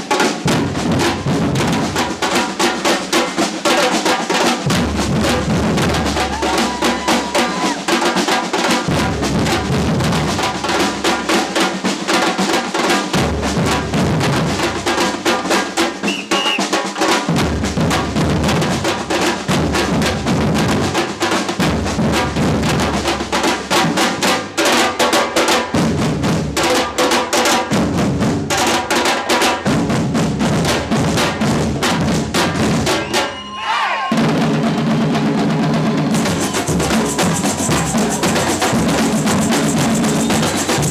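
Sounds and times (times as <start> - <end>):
fast dense drumming: 0.0 - 33.3, 34.1 - 40.9.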